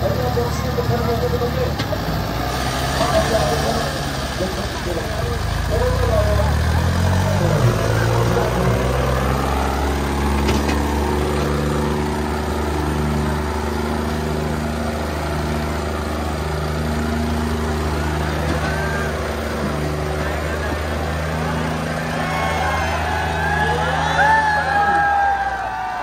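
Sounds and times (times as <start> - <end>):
tractor diesel engines under load: 0.0 - 26.0.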